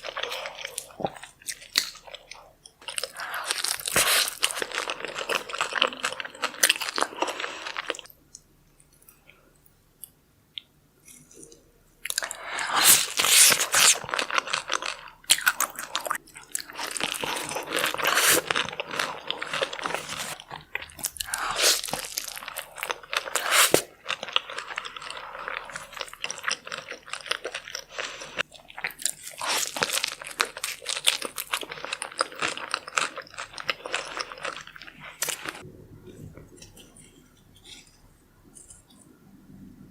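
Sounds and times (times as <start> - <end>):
person chewing crunchy food: 0.0 - 9.4, 11.0 - 39.2.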